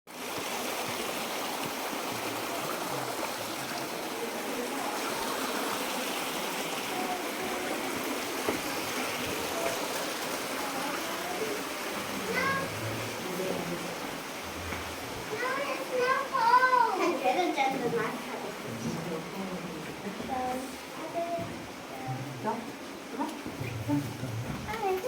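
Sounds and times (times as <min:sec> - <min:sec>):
running water rushing: 0:00.1 - 0:25.0.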